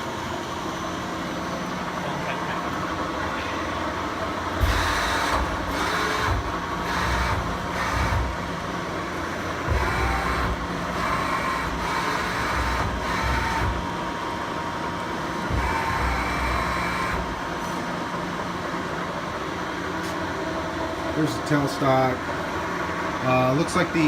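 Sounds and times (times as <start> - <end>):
lathe humming: 0.0 - 24.0.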